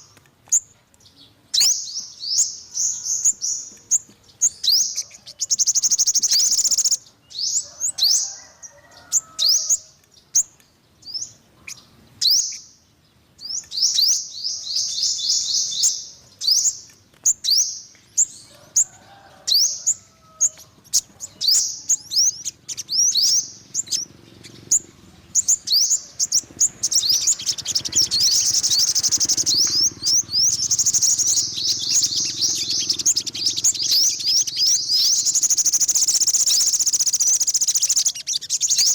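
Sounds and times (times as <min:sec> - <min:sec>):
bird singing high chirps and trills: 0:00.0 - 0:38.9.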